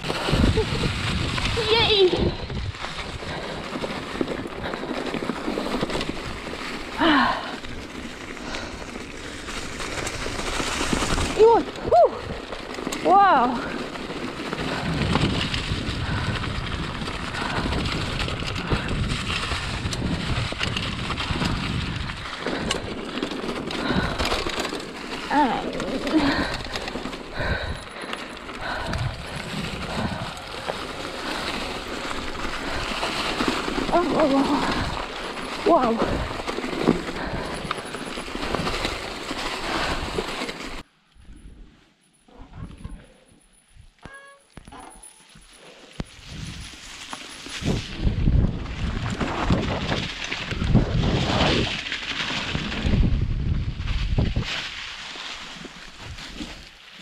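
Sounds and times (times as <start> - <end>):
bike tyres rumbling over dirt: 0.0 - 41.7, 44.8 - 57.0.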